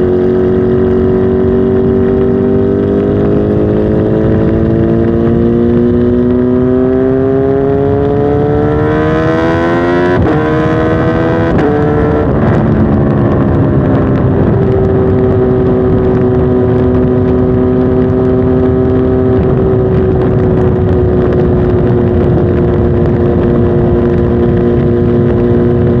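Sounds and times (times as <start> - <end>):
motorcycle accelerating hard: 0.0 - 26.0.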